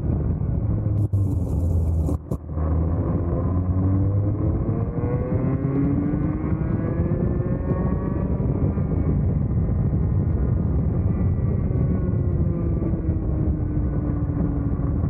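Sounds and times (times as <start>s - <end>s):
kart engine at full throttle: 0.0s - 15.0s.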